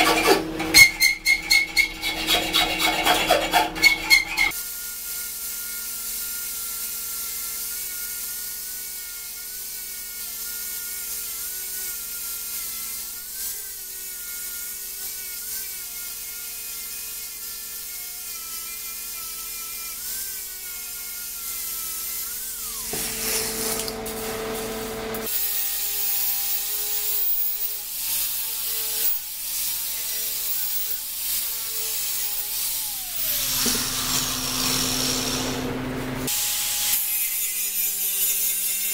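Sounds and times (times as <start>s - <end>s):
electric grinder whining on steel: 0.0s - 38.9s.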